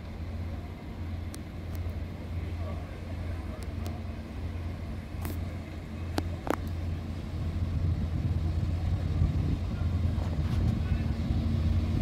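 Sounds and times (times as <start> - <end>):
train running low hum: 0.0 - 12.0.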